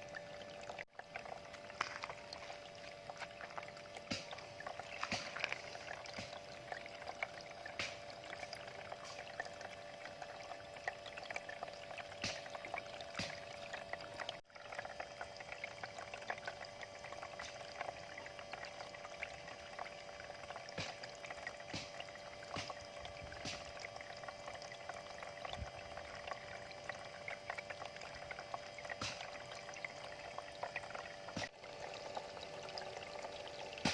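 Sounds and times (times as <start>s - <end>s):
water drips: 0.0s - 33.9s
water trickling into basin: 0.0s - 33.9s.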